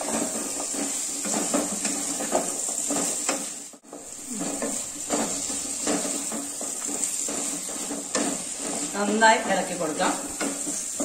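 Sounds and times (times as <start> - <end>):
masala sizzling: 0.0 - 11.0
spatula scraping in a pot: 0.0 - 11.0.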